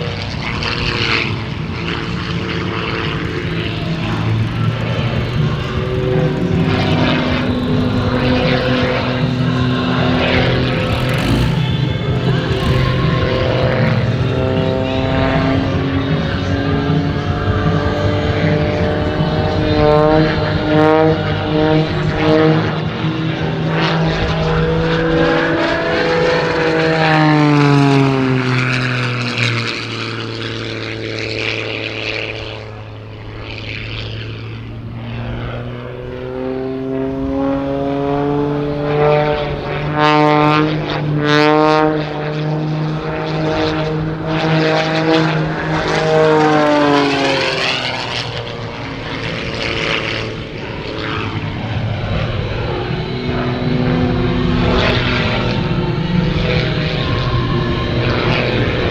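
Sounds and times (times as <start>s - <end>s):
propeller plane engine droning: 0.0s - 58.9s.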